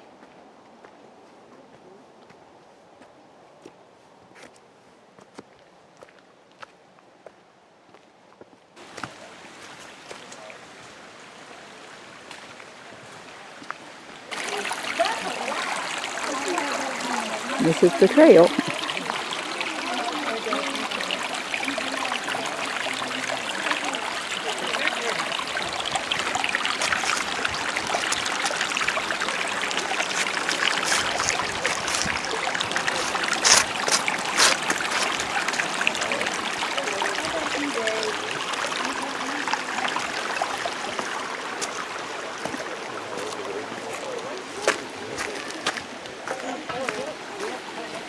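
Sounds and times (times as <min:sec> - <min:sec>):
creek water flowing: 0:08.8 - 0:48.0.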